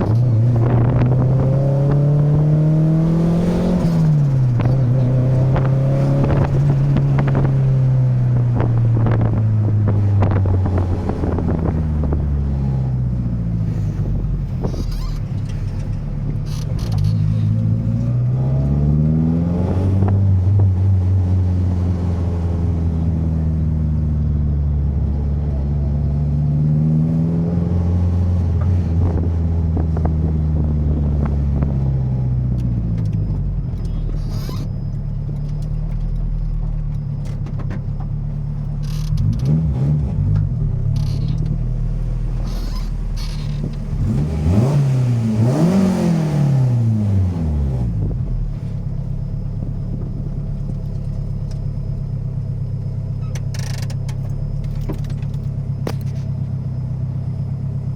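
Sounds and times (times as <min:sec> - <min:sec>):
turbocharged car engine revving: 0:00.0 - 0:36.8, 0:38.3 - 0:57.9.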